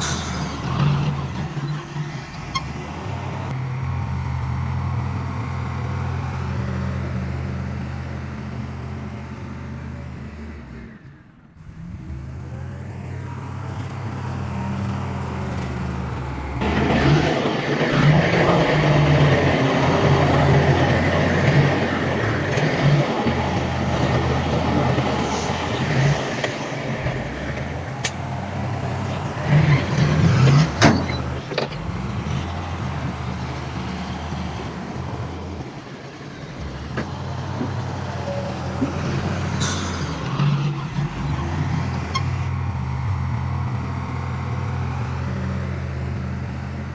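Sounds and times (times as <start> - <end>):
diesel machinery engine running: 0.0 - 46.9.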